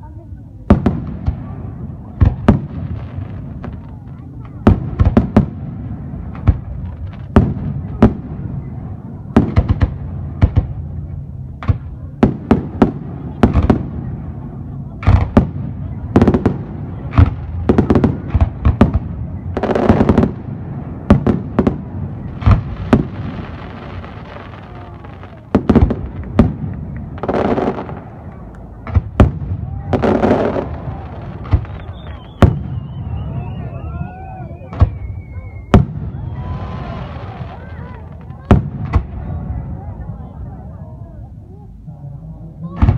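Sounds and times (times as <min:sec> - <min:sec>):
fireworks crackling and hissing: 0:00.0 - 0:42.9
fireworks bangs: 0:00.6 - 0:40.6.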